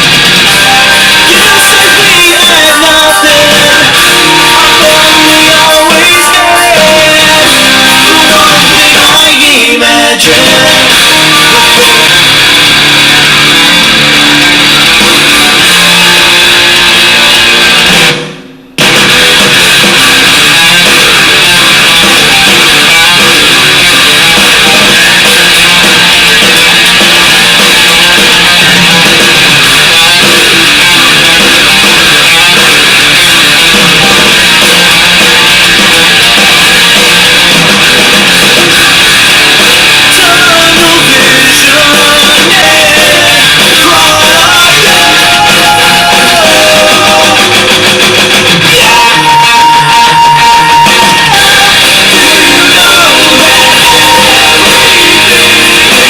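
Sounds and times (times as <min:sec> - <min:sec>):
distorted rock music through speaker: 0:00.0 - 0:56.0.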